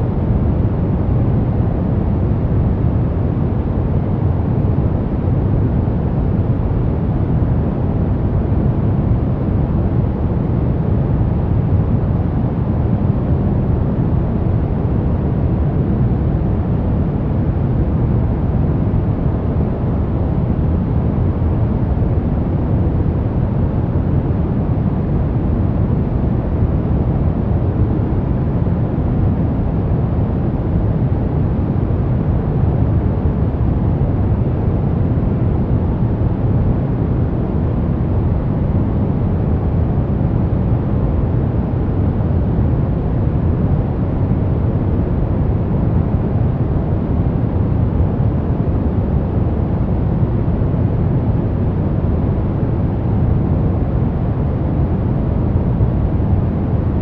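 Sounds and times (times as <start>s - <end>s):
deep white noise: 0.0s - 57.0s.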